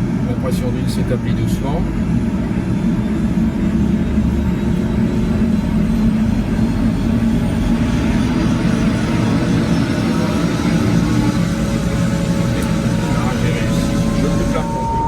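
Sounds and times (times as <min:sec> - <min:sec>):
faint turbine whine: 0:00.0 - 0:15.0
helicopter turbine drone: 0:00.0 - 0:15.0.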